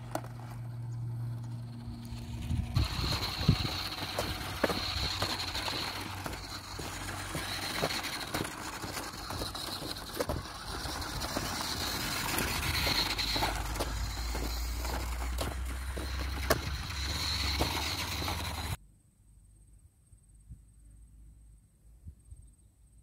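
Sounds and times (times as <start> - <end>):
toy truck motor whining: 0.0 - 18.8
tyres crunching on stones: 0.0 - 18.8.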